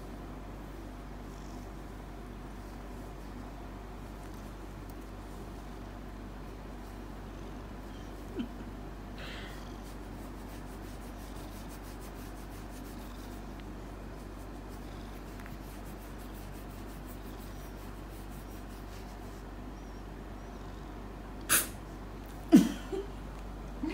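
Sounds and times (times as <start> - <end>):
cat purring: 0.8 - 21.2.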